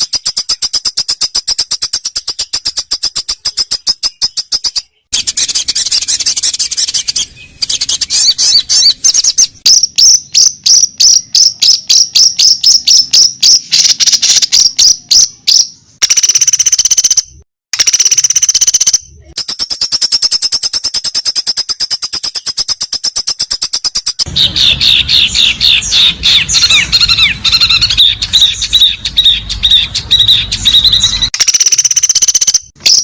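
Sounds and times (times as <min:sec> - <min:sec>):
rapid high bird chirps: 0:00.0 - 0:33.0.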